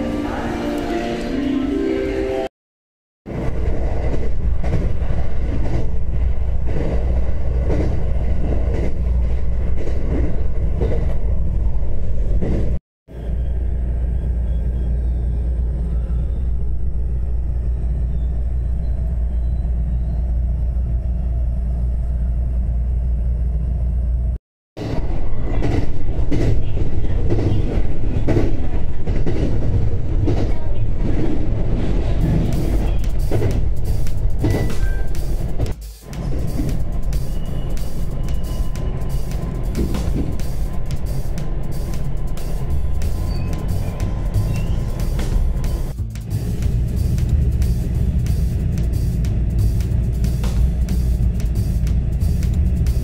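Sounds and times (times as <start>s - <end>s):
train interior rumble: 3.3s - 53.0s.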